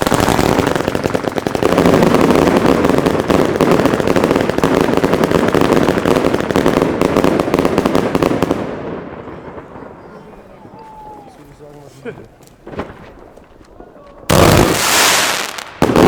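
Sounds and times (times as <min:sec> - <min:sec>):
firecrackers rapid bangs: 0:00.0 - 0:11.6, 0:12.3 - 0:16.0.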